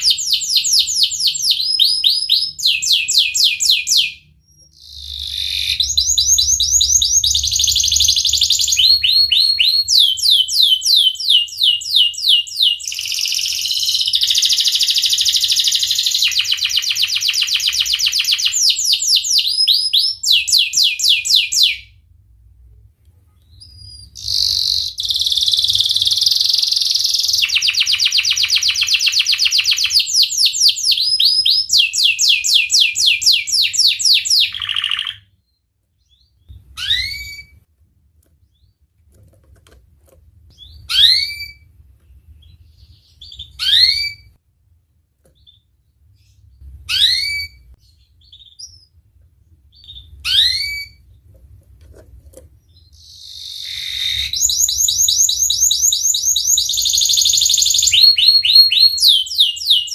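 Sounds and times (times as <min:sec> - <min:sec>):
canary trilling song: 0:00.0 - 0:22.0, 0:23.4 - 0:37.7, 0:38.4 - 0:38.9, 0:40.5 - 0:51.5, 0:52.5 - 0:59.9.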